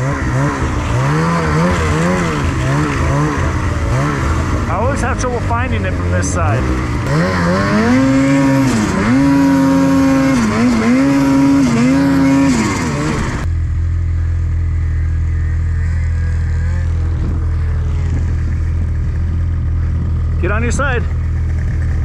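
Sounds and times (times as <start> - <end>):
low engine drone: 0.0 - 22.0
snowmobile engine revving: 0.0 - 22.0.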